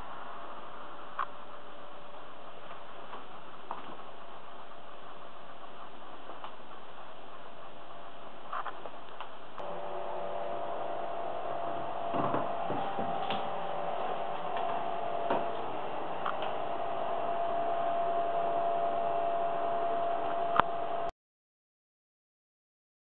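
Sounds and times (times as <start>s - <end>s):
faint hum: 0.0s - 21.1s
steady hiss: 0.0s - 21.1s.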